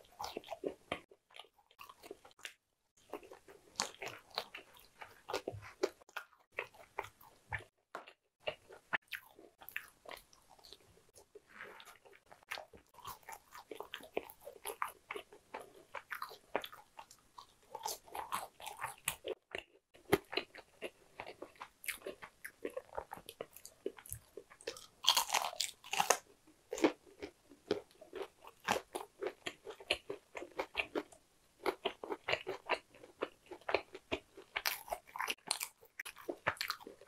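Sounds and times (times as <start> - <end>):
person chewing crunchy fries: 0.0 - 37.0.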